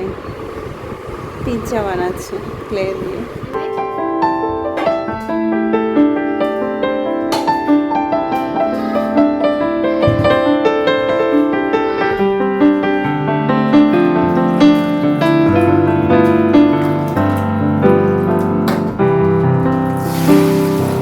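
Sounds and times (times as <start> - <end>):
gentle piano melody: 1.6 - 21.0.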